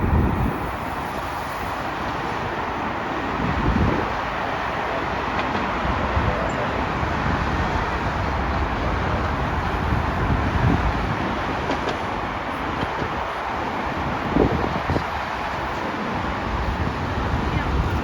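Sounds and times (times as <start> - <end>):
rumbling vehicle noise: 0.0 - 18.0.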